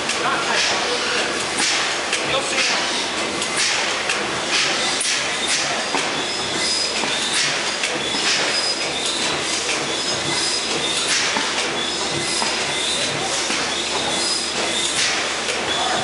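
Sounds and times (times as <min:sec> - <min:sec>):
engine mechanical clatter: 0:00.0 - 0:16.0.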